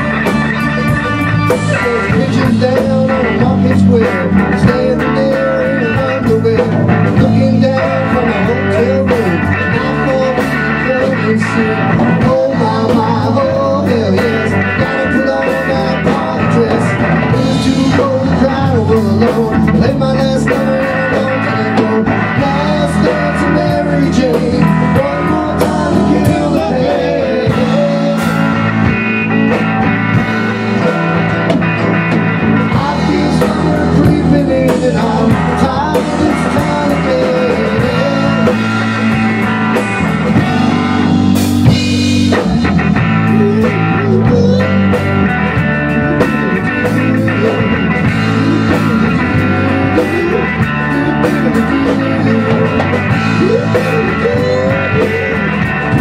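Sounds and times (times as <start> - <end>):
bass guitar: 0.0 - 56.0
drum kit: 0.0 - 56.0
electric guitar bending notes: 0.0 - 56.0.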